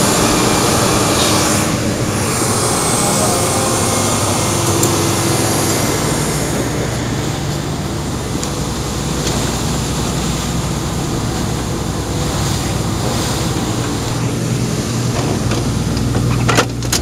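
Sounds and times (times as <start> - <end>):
low machinery hum: 0.0 - 17.0
sea noise: 0.0 - 17.0.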